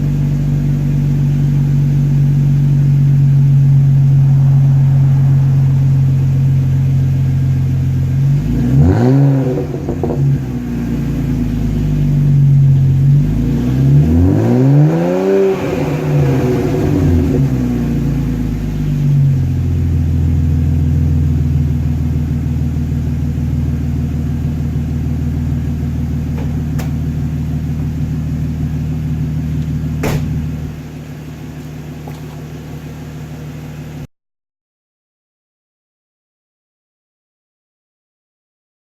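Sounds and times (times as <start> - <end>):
car engine idling and revving: 0.0 - 34.1.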